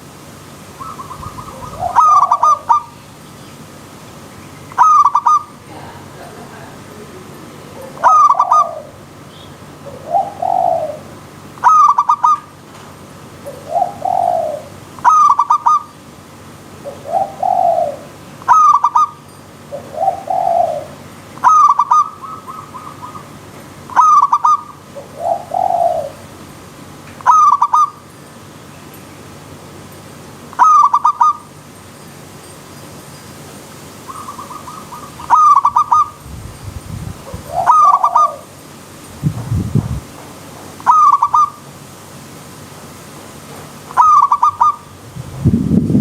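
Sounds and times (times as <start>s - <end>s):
doves cooing: 0.0s - 3.3s, 4.2s - 28.5s, 30.3s - 31.6s, 34.0s - 36.3s, 37.1s - 39.7s, 40.4s - 41.7s, 43.7s - 45.6s.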